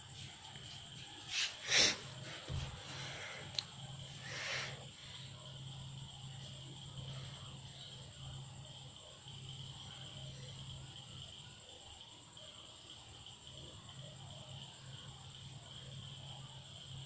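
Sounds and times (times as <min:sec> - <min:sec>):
insects chirring: 0:00.0 - 0:17.0
low steady hum: 0:02.0 - 0:17.0.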